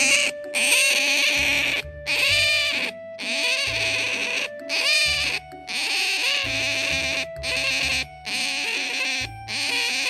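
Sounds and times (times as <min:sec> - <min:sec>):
background music: 0:00.0 - 0:10.0
otter squealing: 0:00.0 - 0:10.0.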